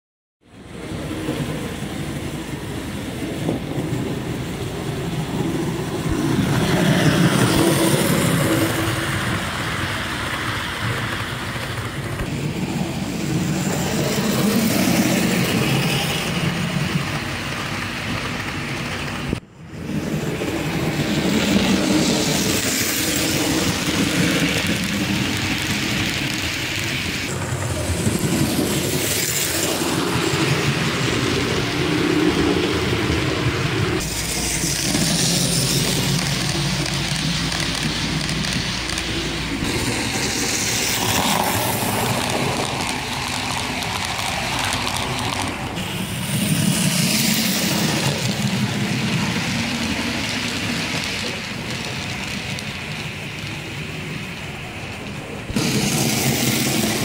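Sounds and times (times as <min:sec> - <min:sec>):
model train rumbling on track: 0:00.4 - 0:57.0.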